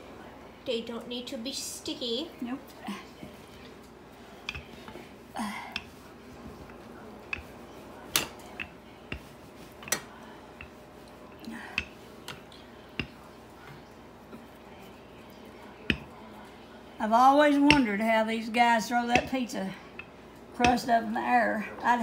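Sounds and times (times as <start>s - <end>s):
rolling pin rolling dough: 3.2s - 22.0s.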